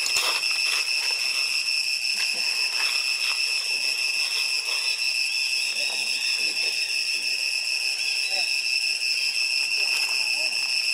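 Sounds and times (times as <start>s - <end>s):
cicadas droning: 0.0s - 10.9s.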